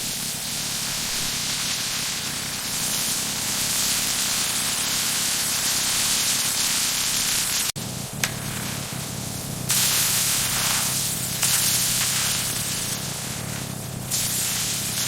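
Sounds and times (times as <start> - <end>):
steady hissing noise: 0.0 - 15.0.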